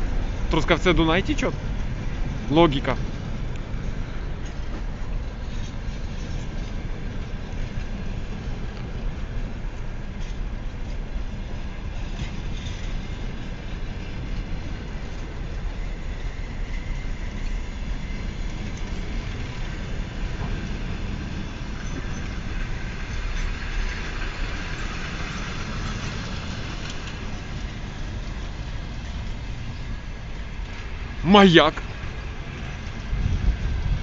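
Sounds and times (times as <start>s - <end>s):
train wheels rumbling on rails: 0.0s - 34.0s
wheels clicking over rail joints: 0.0s - 34.0s.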